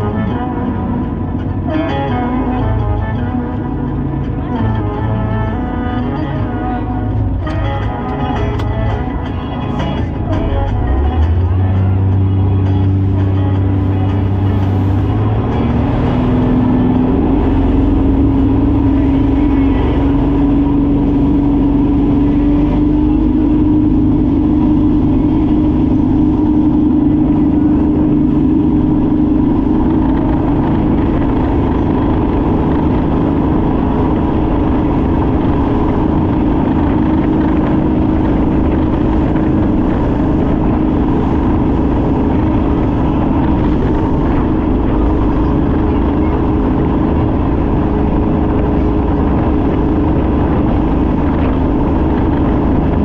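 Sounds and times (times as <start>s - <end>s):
boat engine running hard: 0.0s - 53.0s
loud rushing noise: 0.0s - 53.0s.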